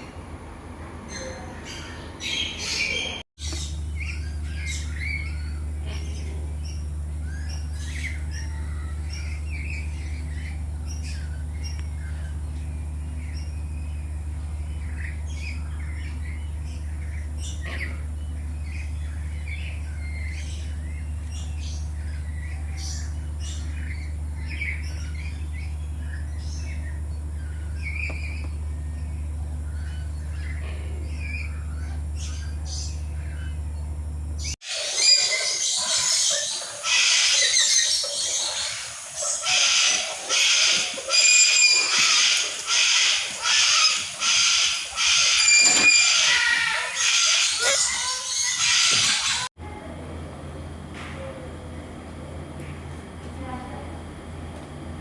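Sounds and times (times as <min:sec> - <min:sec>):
birds squawking and chirping: 0:00.0 - 0:49.5
steady low hum: 0:00.0 - 0:55.0.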